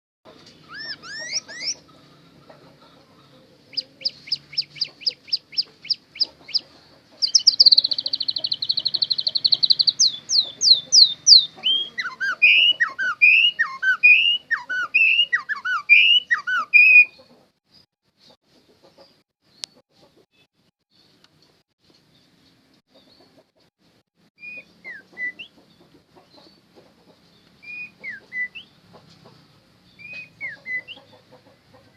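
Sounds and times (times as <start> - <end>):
songbird singing: 0.3 - 17.8, 18.8 - 23.5, 24.3 - 31.9.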